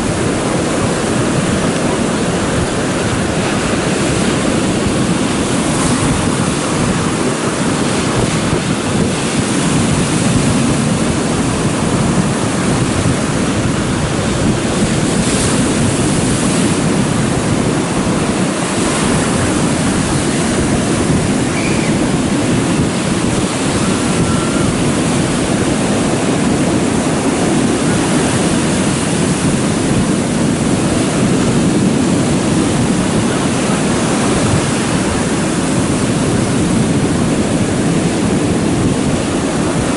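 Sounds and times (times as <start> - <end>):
strong wind buffeting microphone: 0.0 - 39.9
surf breaking and rushing: 0.0 - 39.9.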